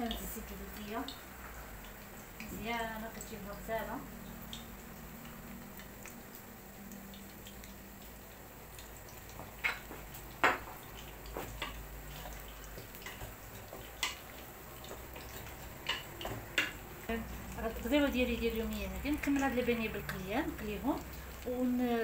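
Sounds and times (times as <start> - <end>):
faint background hum: 0.0 - 22.0.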